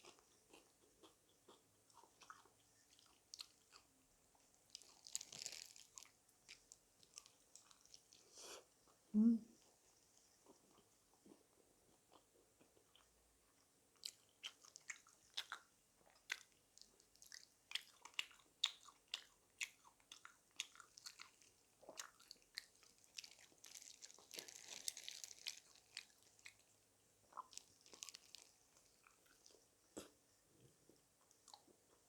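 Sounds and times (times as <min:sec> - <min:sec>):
crunchy chewing of crispy food: 0:00.0 - 0:09.0, 0:09.8 - 0:32.0.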